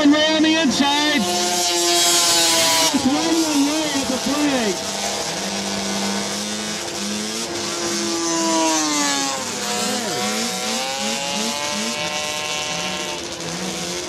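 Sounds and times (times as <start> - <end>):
snowmobile engines racing: 0.0 - 14.0
low pulsing engine note: 0.6 - 14.0.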